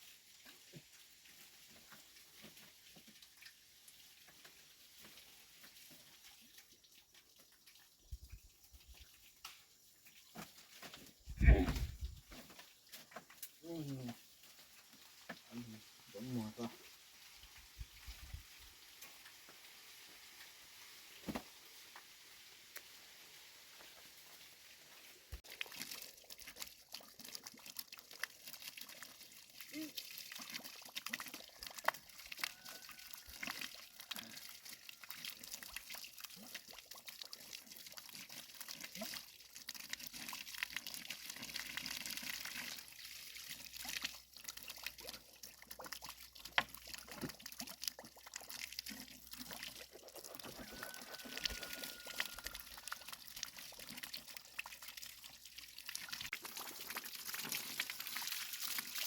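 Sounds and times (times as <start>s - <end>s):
water pouring and trickling: 0.0s - 59.0s.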